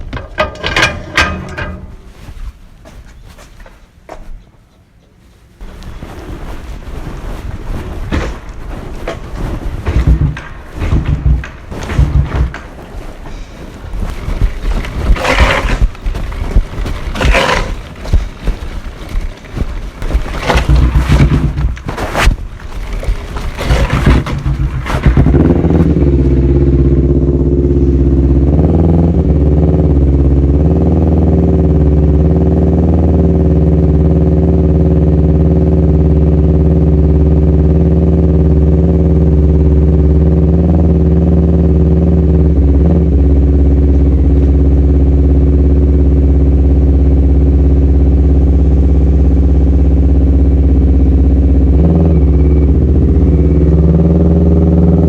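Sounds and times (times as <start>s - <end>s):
motorcycle engine running: 0.0s - 2.3s, 8.1s - 12.6s, 13.6s - 55.0s.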